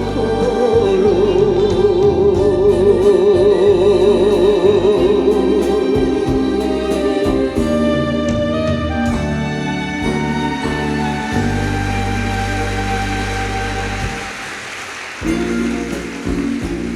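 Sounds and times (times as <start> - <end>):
instrumental accompaniment: 0.0 - 16.9.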